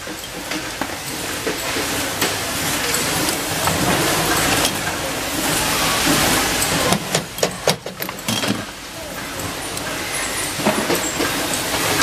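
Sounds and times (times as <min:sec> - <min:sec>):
machinery hissing din: 0:00.0 - 0:12.0.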